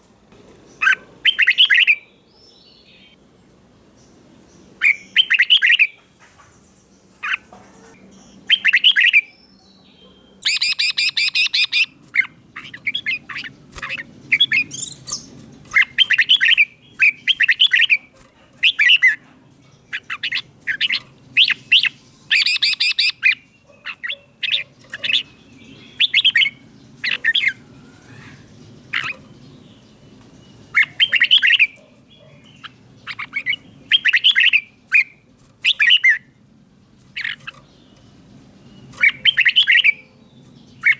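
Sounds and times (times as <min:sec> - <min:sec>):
bulbul singing: 0:00.3 - 0:03.3, 0:03.9 - 0:40.9.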